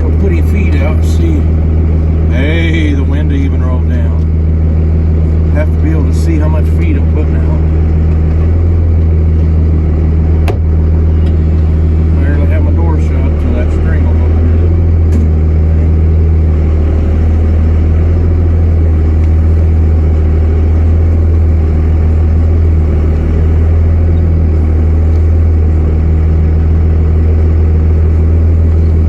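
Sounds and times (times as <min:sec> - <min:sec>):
truck engine humming: 0:00.0 - 0:29.0.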